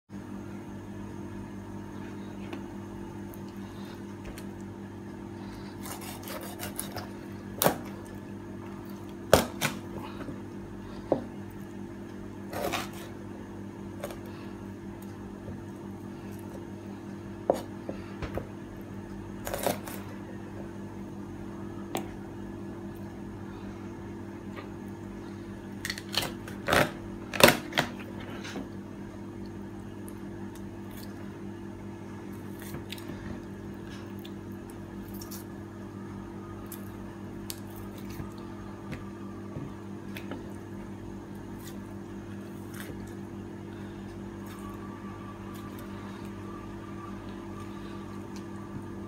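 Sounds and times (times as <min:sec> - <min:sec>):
steady low hum: 0:00.1 - 0:49.0.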